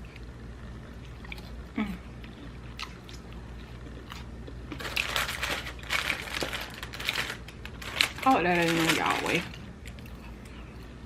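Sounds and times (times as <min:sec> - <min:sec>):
chewing crispy fried food: 0:00.0 - 0:11.0.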